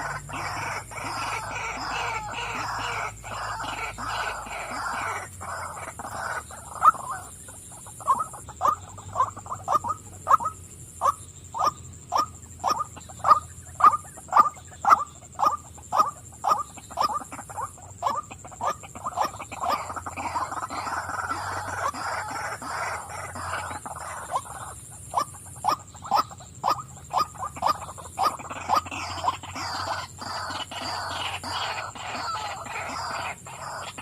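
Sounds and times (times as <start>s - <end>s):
bird croaking calls: 0.0s - 34.0s.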